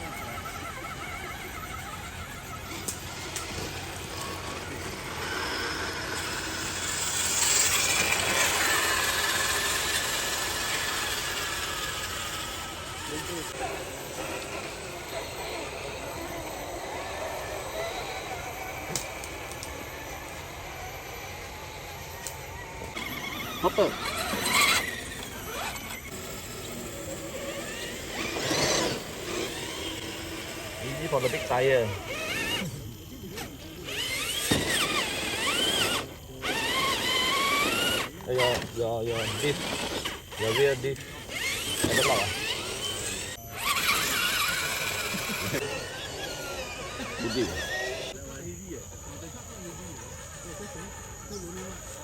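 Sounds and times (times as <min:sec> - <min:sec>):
toy car electric motor whining: 0:00.0 - 0:52.0.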